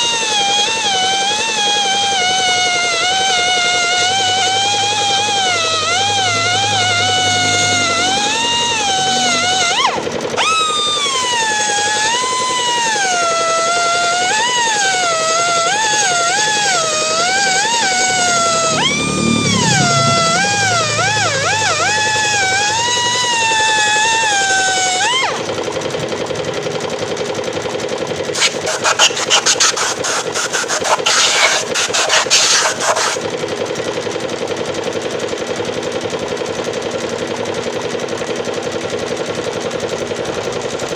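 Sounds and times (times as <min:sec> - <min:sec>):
grinder grinding material: 0:00.0 - 0:27.1, 0:27.8 - 0:33.8
air grinder whining: 0:00.0 - 0:40.9.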